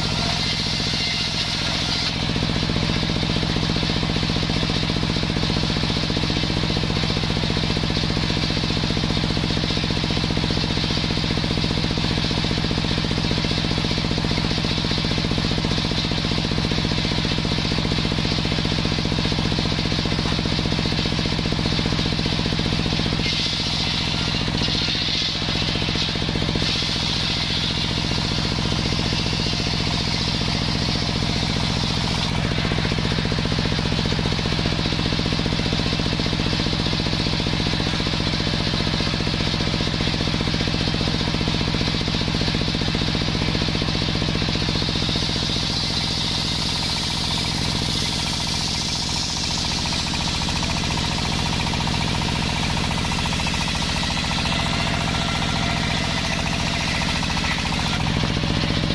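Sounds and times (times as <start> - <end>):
circular saw cutting log: 0.0 - 36.7, 42.2 - 58.9
machine motor drone: 0.0 - 58.9.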